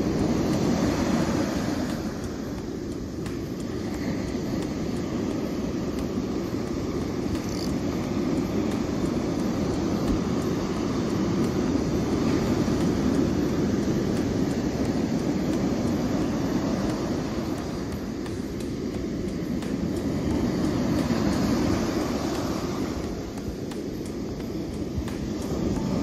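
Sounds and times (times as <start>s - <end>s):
breaking surf: 0.0s - 26.0s
wind: 0.0s - 26.0s.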